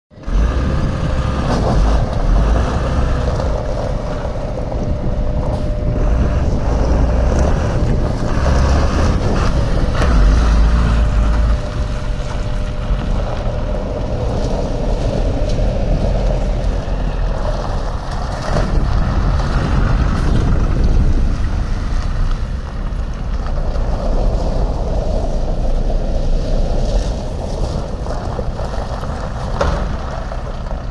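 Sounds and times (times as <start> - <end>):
diesel truck engine idling: 0.1 - 30.9
wind buffeting microphone: 0.1 - 30.9.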